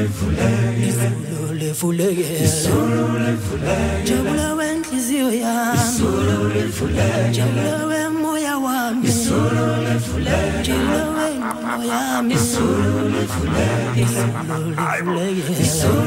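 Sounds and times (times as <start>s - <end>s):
male choir singing in harmony: 0.0s - 16.0s.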